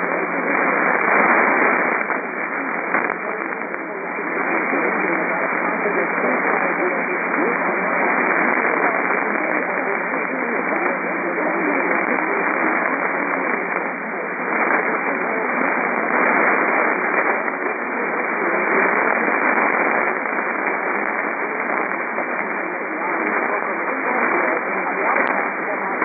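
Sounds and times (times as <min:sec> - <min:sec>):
faint unintelligible speech: 0:00.0 - 0:26.0
radio static hiss: 0:00.0 - 0:26.0.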